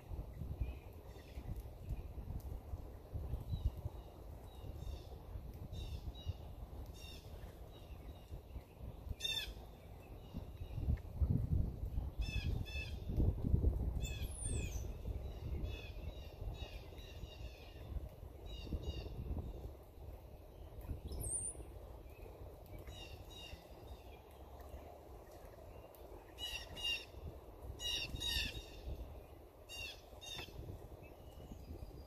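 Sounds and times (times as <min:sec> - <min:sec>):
songbirds chirping: 0:00.1 - 0:11.2, 0:14.0 - 0:32.0.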